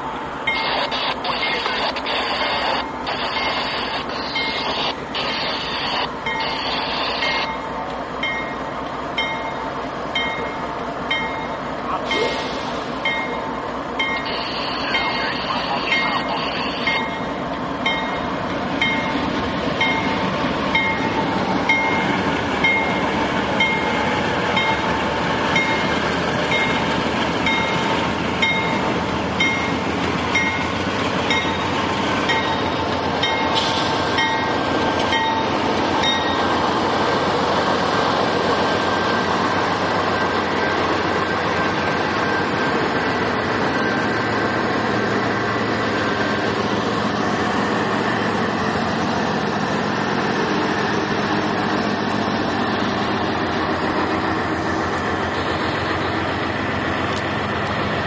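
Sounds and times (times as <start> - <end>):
diesel locomotive engines: 0.0 - 58.0
train wheels on rails: 0.0 - 58.0.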